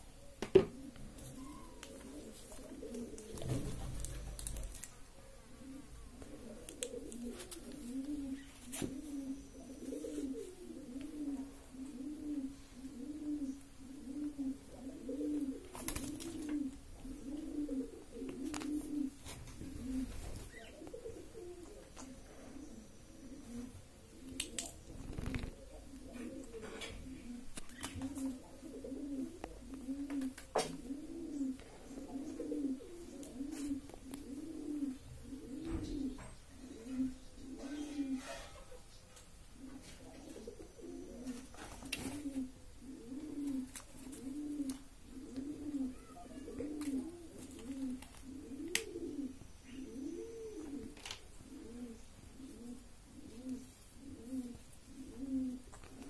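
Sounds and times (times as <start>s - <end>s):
pigeon cooing: 0.0s - 38.9s, 39.5s - 56.0s.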